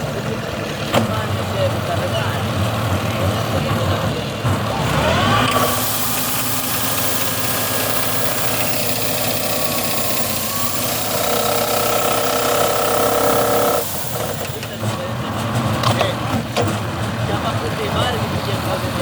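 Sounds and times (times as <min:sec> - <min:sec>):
machine running with whining tones: 0:00.0 - 0:17.2.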